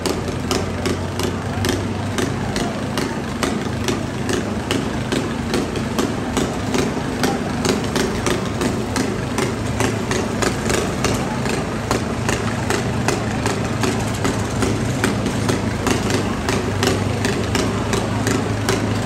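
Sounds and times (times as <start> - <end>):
lawn mower engines running: 0.0 - 19.0.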